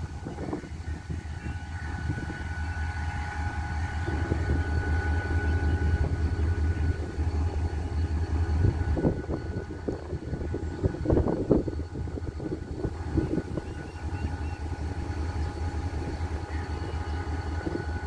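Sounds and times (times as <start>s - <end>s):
diesel locomotive engine rumbling: 0.0s - 18.0s
faint steady whine: 0.0s - 18.0s.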